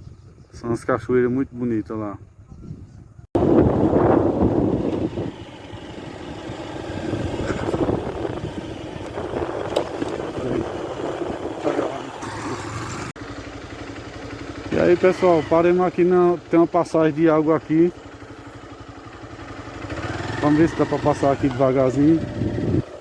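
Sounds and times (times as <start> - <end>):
road noise: 3.4 - 23.0
vehicle engine: 3.4 - 23.0.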